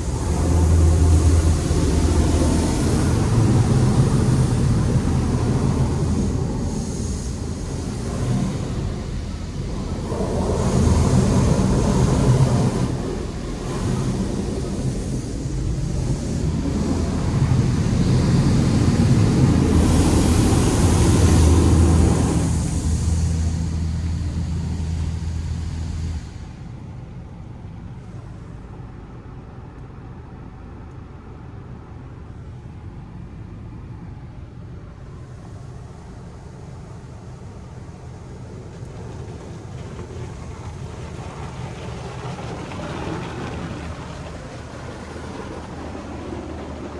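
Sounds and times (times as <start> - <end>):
hissing water spray: 0.0 - 26.8, 35.1 - 46.9
car wash motor hum: 0.0 - 46.9.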